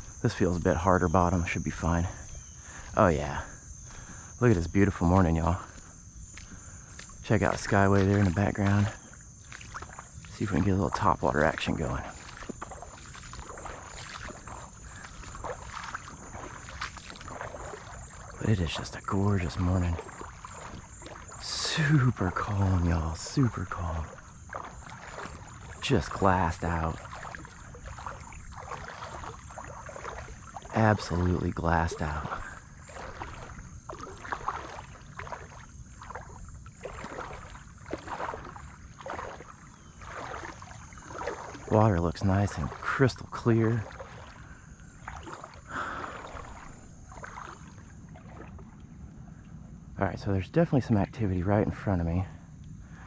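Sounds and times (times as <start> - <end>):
small water splashes: 0.0 - 49.6
water swishing around wading legs: 0.0 - 49.9.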